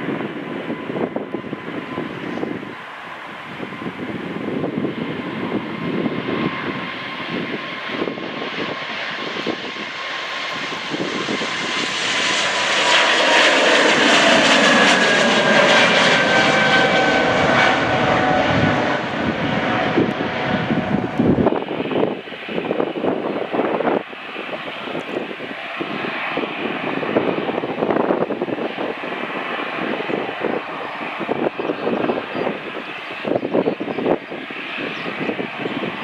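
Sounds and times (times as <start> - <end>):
jet airliner engines passing: 0.0 - 36.0.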